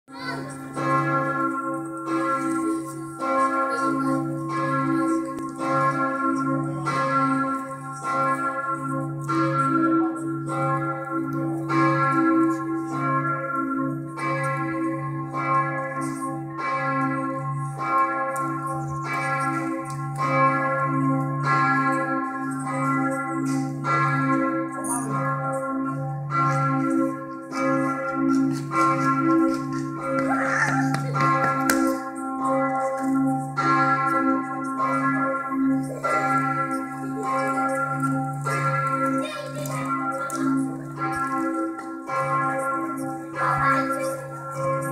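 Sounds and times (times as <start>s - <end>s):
church bells ringing: 0.1s - 44.9s.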